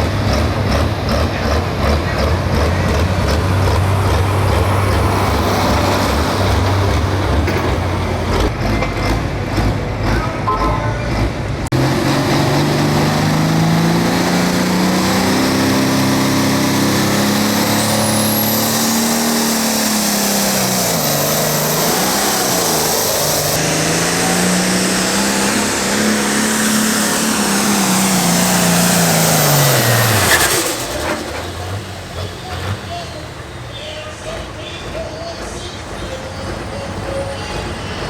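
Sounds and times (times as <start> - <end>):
diesel tractor engine at full power: 0.0 - 38.0.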